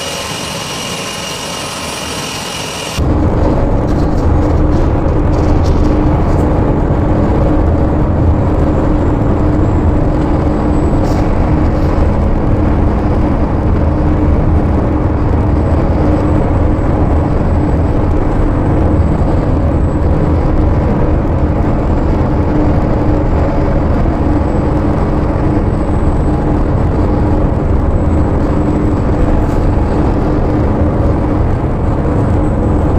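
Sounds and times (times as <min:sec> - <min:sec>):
constant low hum: 0:00.0 - 0:32.9
freight train rumble: 0:00.0 - 0:32.9
vehicle road noise: 0:00.0 - 0:32.9.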